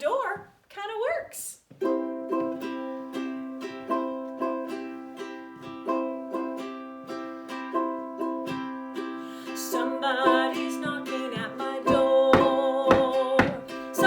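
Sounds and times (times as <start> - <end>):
string instrument strumming chords: 1.8 - 14.0.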